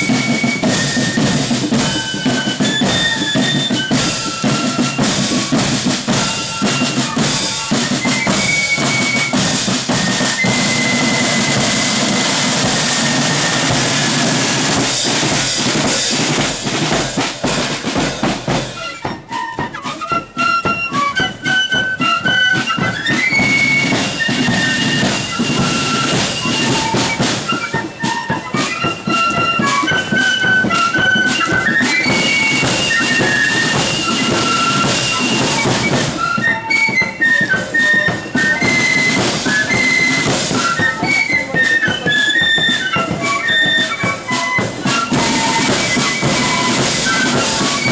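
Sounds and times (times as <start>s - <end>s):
flutes playing high melody: 0.0s - 47.9s
heavy marching drums: 0.0s - 47.9s.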